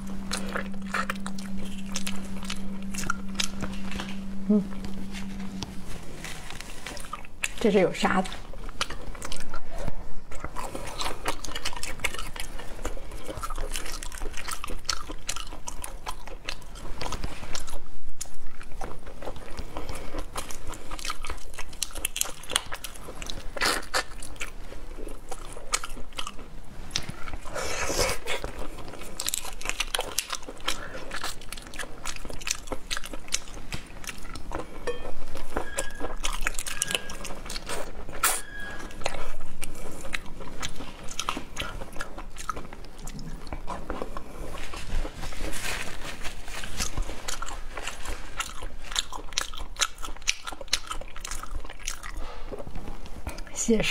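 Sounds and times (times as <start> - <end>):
crunchy chewing: 0.0 - 53.5.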